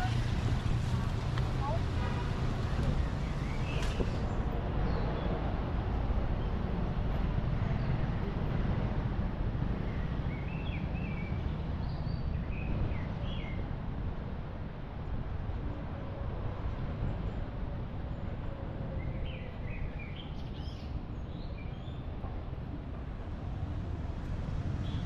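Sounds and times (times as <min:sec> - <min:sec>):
street noise rumble: 0:00.0 - 0:25.0.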